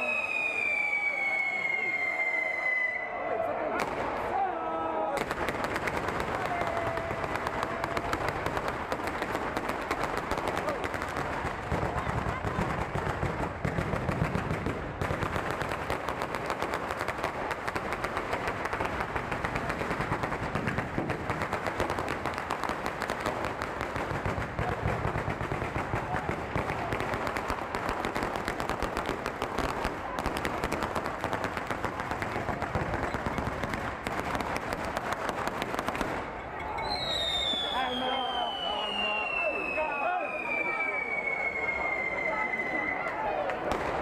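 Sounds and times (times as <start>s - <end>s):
firecrackers crackling: 0.0s - 44.0s.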